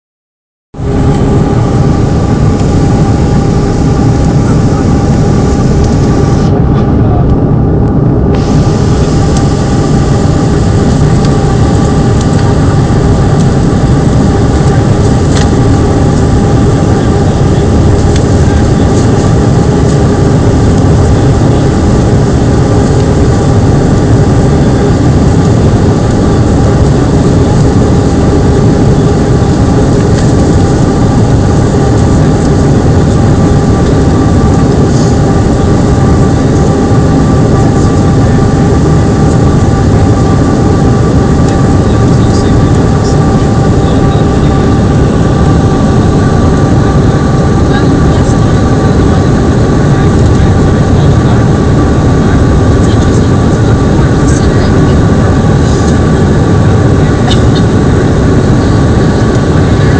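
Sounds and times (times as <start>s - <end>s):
airliner engines and rushing air: 0.8s - 59.9s
faint steady hum: 0.8s - 59.9s.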